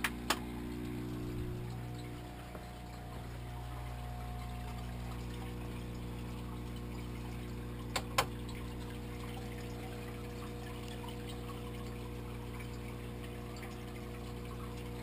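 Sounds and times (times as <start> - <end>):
aquarium filter pump humming: 0.0 - 15.0.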